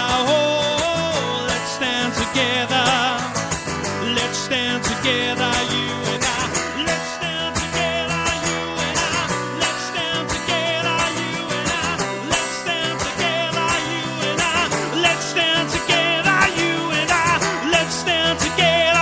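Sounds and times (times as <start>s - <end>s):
steady rock guitar: 0.0s - 19.0s.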